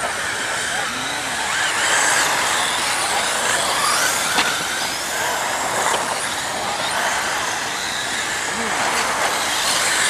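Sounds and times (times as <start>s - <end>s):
toy truck motors whining: 0.0s - 10.0s.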